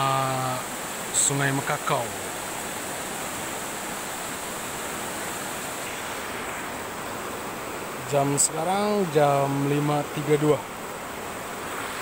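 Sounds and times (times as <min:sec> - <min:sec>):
river floodwater rushing: 0:00.0 - 0:12.0.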